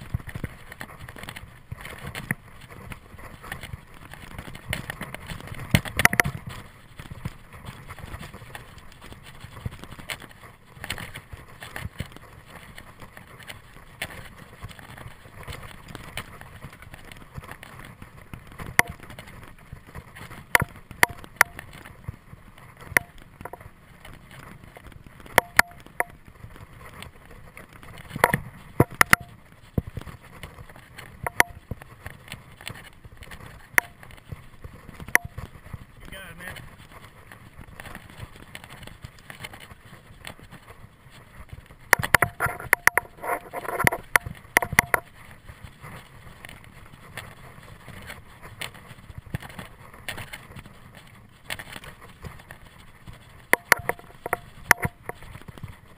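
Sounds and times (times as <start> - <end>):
bike rattling over bumps: 0.0 - 55.9
bike tyres rolling on dirt: 0.0 - 55.9.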